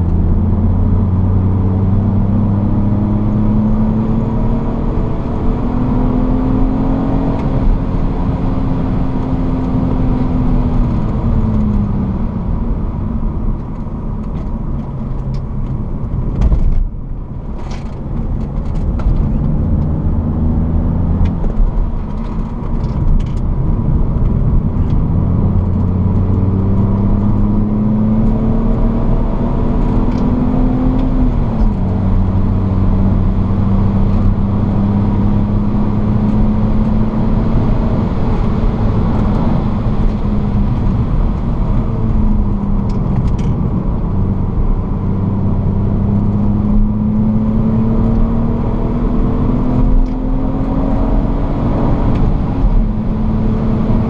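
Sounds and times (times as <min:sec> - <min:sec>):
car engine accelerating: 0:00.0 - 0:54.0
road noise: 0:00.0 - 0:54.0
wind noise: 0:00.0 - 0:54.0.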